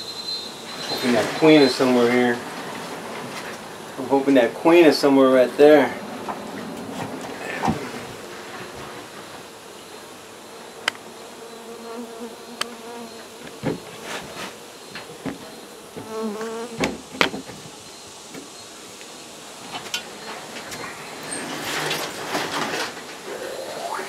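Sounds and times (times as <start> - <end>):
bee passing close: 0.0 - 24.0
bees buzzing: 0.0 - 24.0.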